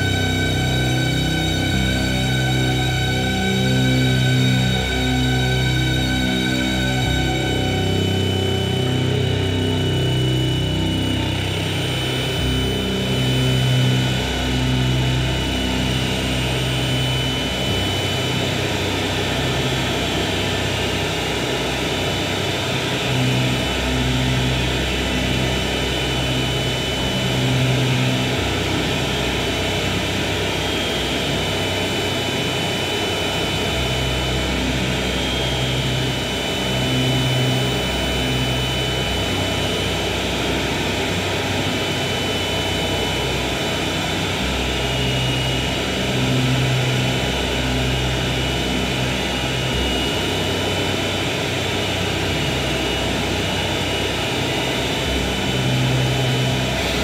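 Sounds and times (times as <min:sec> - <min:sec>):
low drone: 0:00.0 - 0:57.0
wall of electronic noise: 0:00.0 - 0:57.0.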